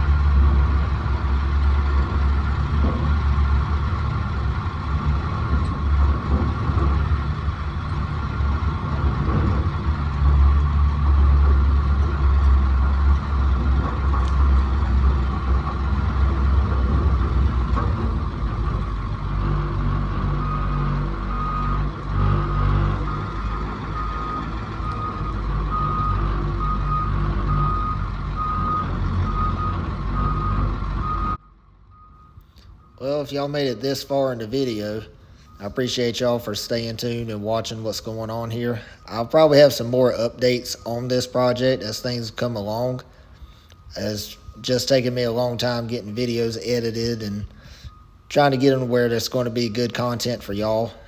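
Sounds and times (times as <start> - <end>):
heavy machine engine running: 0.0 - 51.0
reversing alarm beeping: 10.1 - 51.0.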